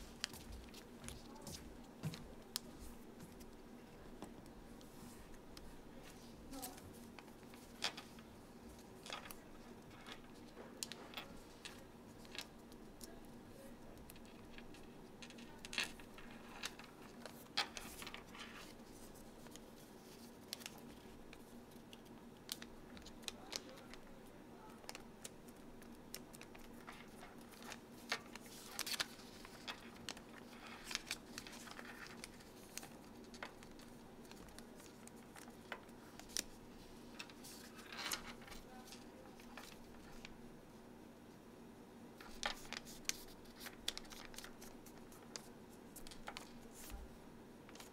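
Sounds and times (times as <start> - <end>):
faint steady hum: 0.0 - 47.9
paper rustling and creasing: 4.3 - 24.0, 24.7 - 40.4, 42.2 - 47.1.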